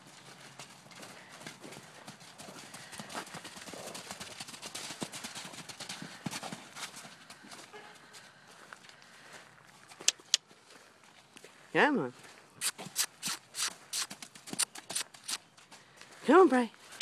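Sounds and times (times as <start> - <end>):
horse hoofbeats on sandy dirt: 0.0 - 8.9, 9.6 - 17.0.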